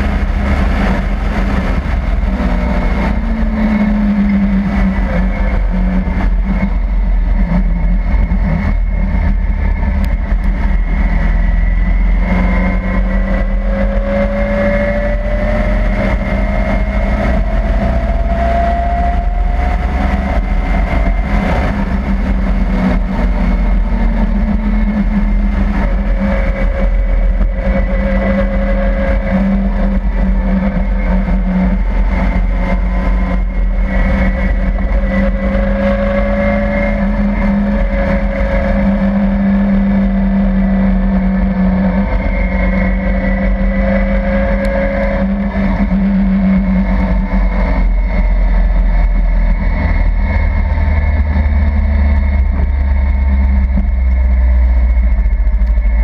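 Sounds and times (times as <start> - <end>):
car engine revving: 0.0 - 56.0
road noise: 0.0 - 56.0.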